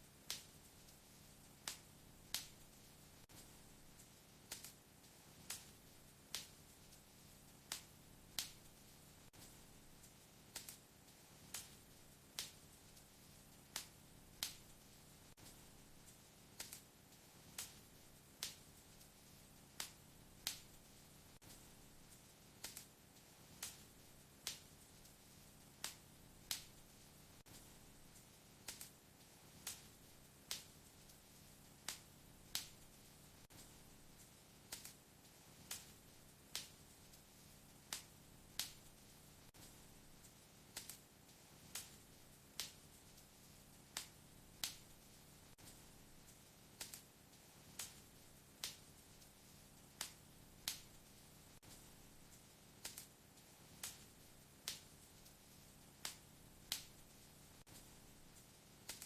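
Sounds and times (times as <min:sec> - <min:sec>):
faint low hiss: 0:00.0 - 0:59.0
wood fire crackling: 0:00.0 - 0:59.0.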